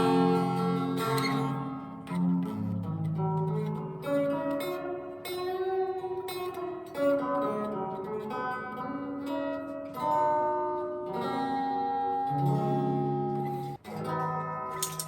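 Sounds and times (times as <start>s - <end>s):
plucked string melody with reverb: 0.0s - 15.0s.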